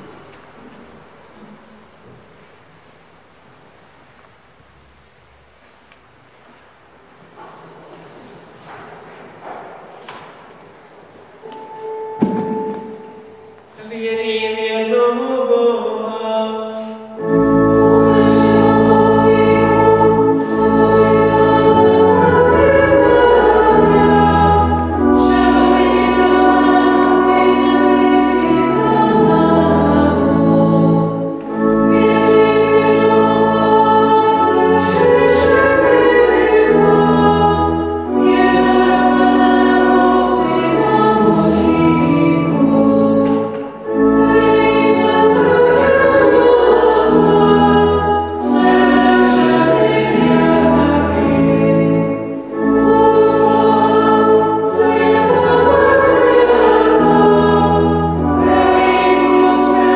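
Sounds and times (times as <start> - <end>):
church organ chords: 11.4 - 59.9
people singing a hymn: 11.5 - 59.9.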